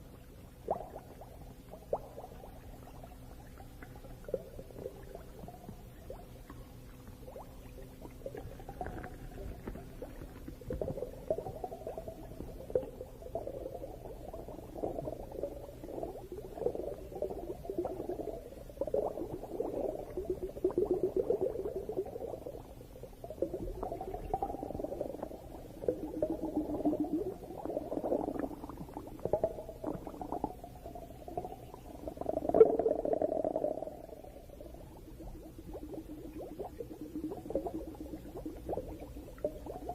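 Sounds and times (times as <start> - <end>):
faint low hum: 0.0 - 39.9
underwater bubbling: 0.0 - 39.9.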